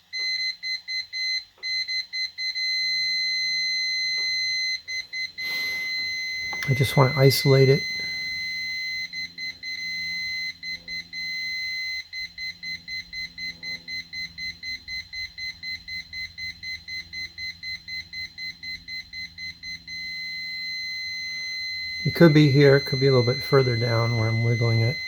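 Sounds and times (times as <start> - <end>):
multimeter continuity beeps: 0.0 - 25.0.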